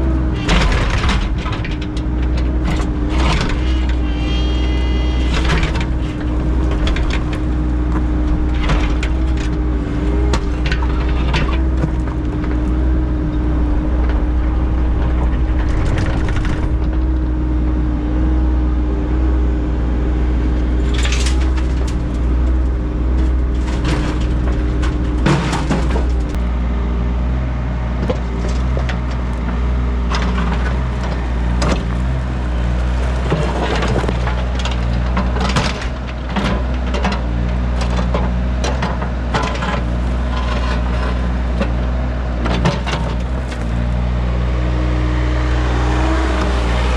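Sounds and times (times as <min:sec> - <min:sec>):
heavy equipment engine running: 0:00.0 - 0:46.9.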